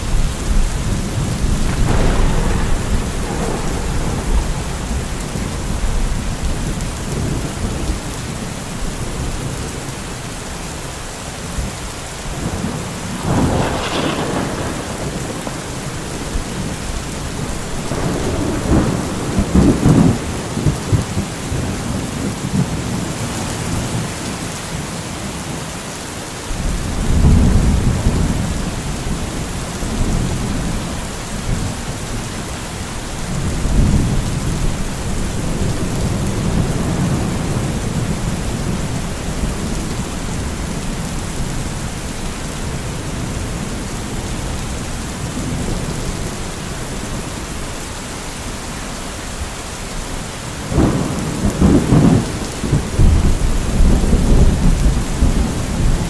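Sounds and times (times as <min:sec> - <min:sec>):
thunder rumbling: 0:00.0 - 0:10.4, 0:11.4 - 0:24.2, 0:26.5 - 0:48.5, 0:50.6 - 0:56.0
steady rain: 0:00.0 - 0:56.0.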